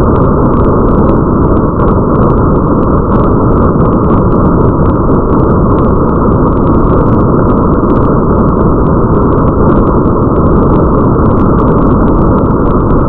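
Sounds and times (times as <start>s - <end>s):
rain rumble: 0.0s - 13.0s
raindrops ticking: 0.0s - 13.0s.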